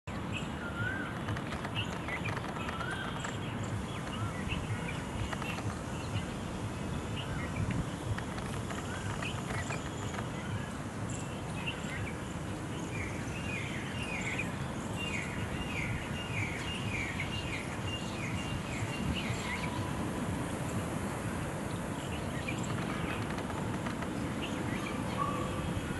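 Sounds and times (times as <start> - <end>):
small birds calling: 0.1 - 25.9
wavy whistled bird notes: 0.1 - 25.9.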